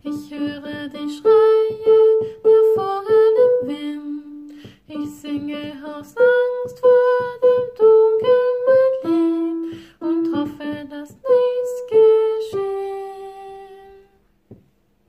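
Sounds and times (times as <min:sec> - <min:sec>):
soprano voice singing: 0:00.0 - 0:14.2.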